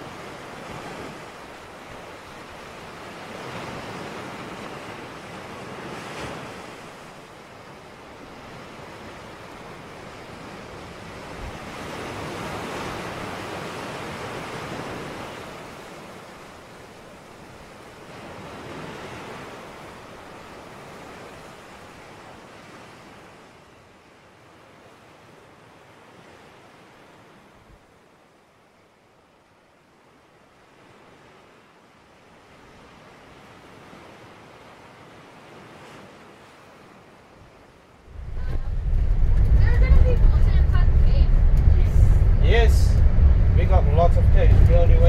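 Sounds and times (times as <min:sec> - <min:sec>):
ocean waves breaking: 0:00.0 - 0:45.0.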